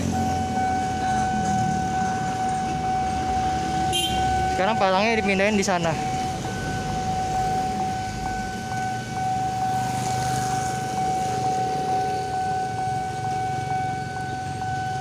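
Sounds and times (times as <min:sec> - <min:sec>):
passing cars and motorcycles: 0:00.0 - 0:15.0
railroad crossing alarm tone: 0:00.0 - 0:15.0.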